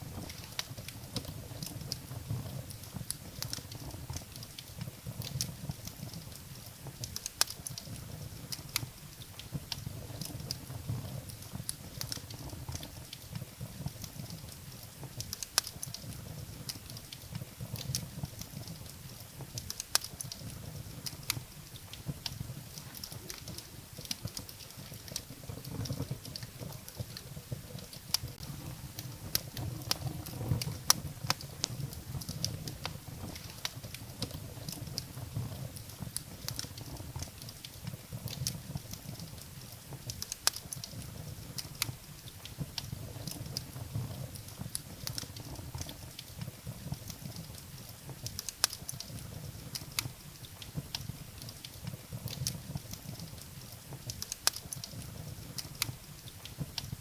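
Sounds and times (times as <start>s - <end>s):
firewood crackling and popping: 0.0s - 57.0s
low rumble of flames: 0.0s - 57.0s.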